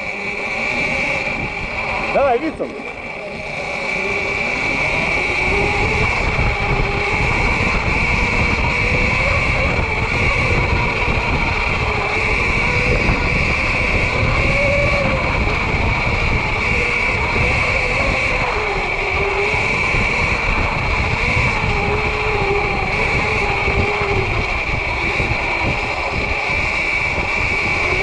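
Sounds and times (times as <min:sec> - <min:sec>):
electric motor whine: 0:00.0 - 0:28.0
wind buffeting microphone: 0:00.0 - 0:28.0.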